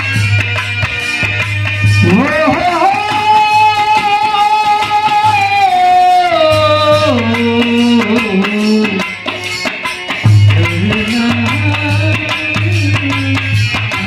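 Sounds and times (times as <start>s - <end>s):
harmonium: 0.0s - 14.0s.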